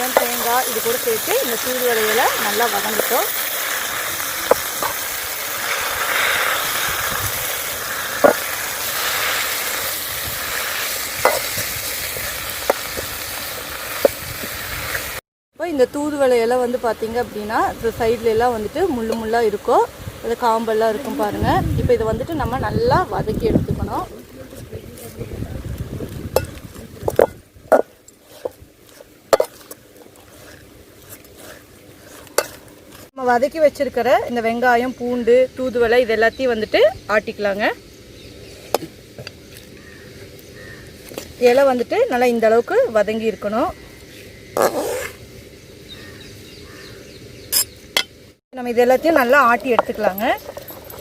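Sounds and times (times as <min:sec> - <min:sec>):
vegetables sizzling in a pan: 0:00.0 - 0:48.0.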